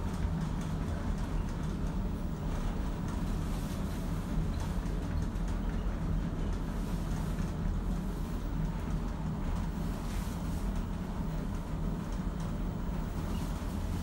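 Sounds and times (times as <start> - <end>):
lift running hum and rumble: 0.0 - 14.0.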